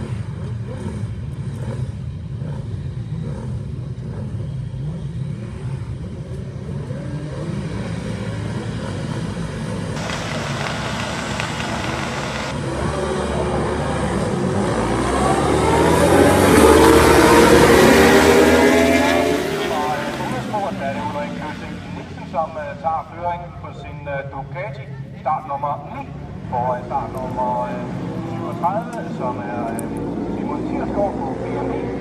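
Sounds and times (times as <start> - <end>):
motorcycles accelerating past: 0.0 - 22.4, 26.4 - 32.0
motorcycle engines revving: 0.0 - 32.0.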